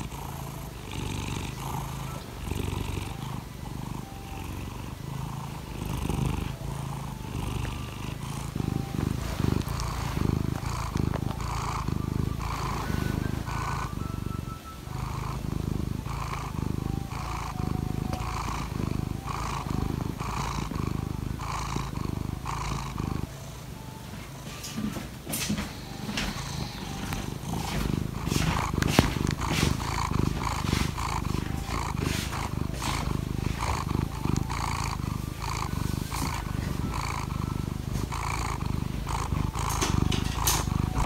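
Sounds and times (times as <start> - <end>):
cat purring: 0.0 - 41.0.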